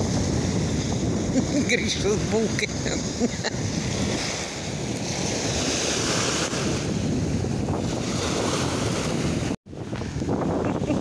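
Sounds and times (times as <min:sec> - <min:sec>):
waves washing onto shore: 0:00.0 - 0:11.0
wind buffeting microphone: 0:00.0 - 0:11.0.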